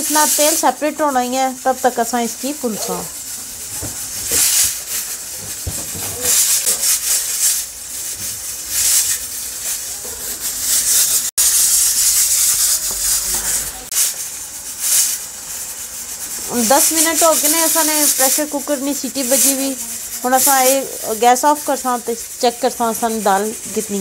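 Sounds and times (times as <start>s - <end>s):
masala sizzling in oil: 0.0s - 24.0s
spatula scraping a pot: 0.0s - 24.0s.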